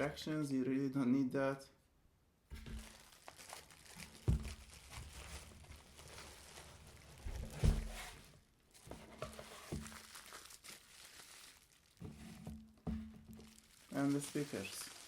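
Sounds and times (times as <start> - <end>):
packaging crinkling and rustling: 2.5 - 15.0.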